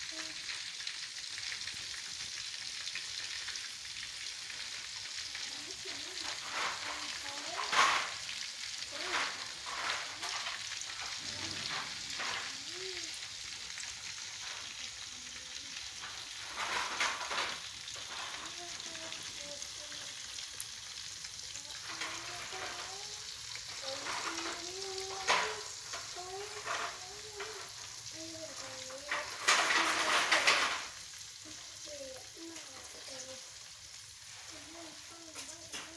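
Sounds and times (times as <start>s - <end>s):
chicken frying in oil: 0.0s - 35.9s
oil crackling and spattering: 0.0s - 35.9s.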